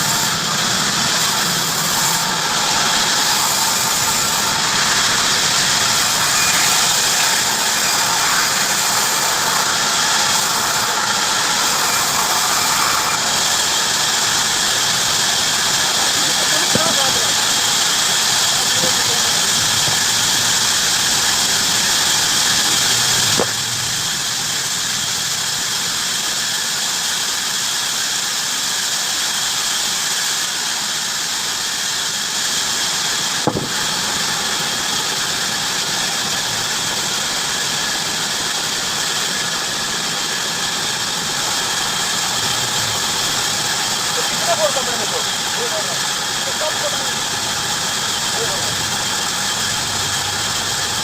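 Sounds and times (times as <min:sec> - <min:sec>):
bandsaw cutting wood: 0:00.0 - 0:24.7, 0:32.4 - 0:51.0.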